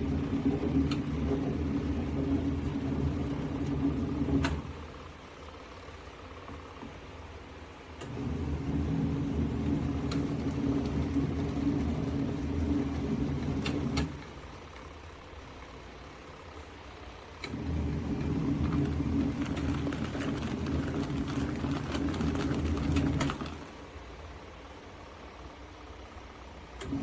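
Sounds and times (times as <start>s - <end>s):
washing machine motor humming: 0.0s - 27.0s.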